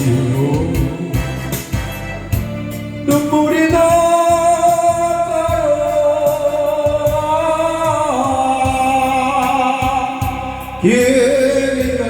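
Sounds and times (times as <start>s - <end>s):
band accompaniment: 0.0s - 12.0s
person singing ballad: 0.0s - 12.0s
steady drum beat: 0.0s - 12.0s.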